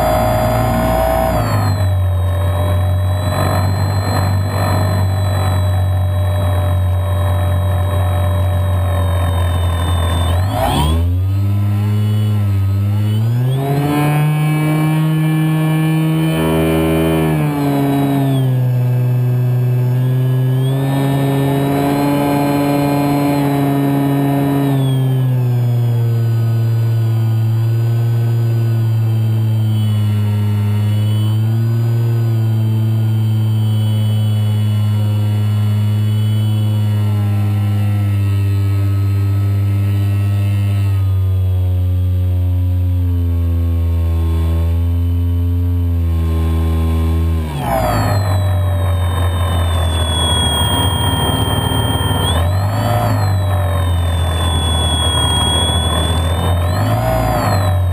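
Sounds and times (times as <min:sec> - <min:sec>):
model plane propeller drone: 0:00.0 - 0:57.9.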